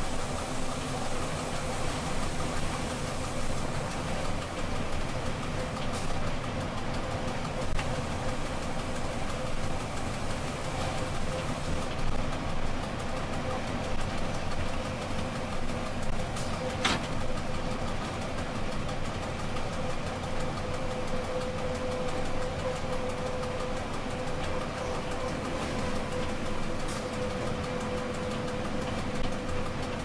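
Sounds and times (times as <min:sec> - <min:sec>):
train wheels rumbling: 0:00.0 - 0:30.0.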